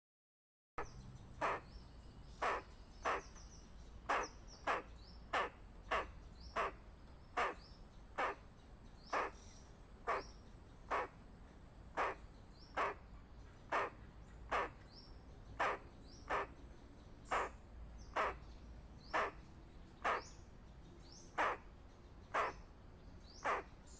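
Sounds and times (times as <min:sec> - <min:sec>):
squirrel alarm call: 0:00.8 - 0:11.3, 0:11.9 - 0:16.6, 0:17.2 - 0:23.9.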